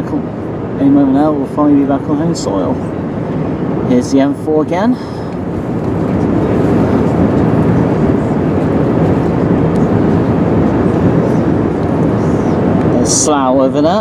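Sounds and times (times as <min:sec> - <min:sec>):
aircraft cabin noise: 0:00.0 - 0:14.0.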